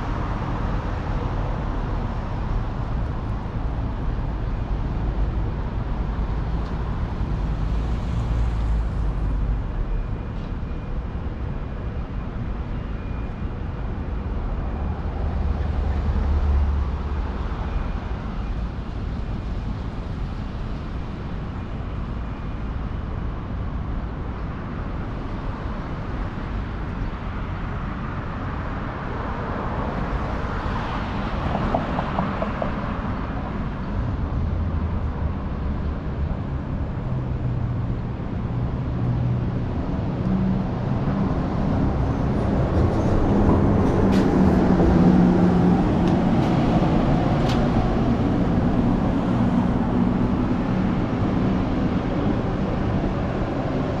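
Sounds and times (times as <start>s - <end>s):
hum of passing vehicles: 0.0s - 54.0s.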